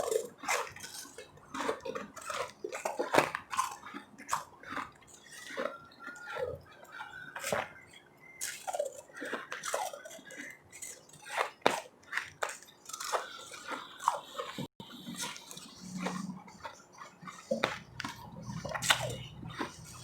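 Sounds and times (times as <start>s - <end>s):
ice crunching while chewing: 0.0s - 20.0s
wet mouth sounds: 0.0s - 20.0s.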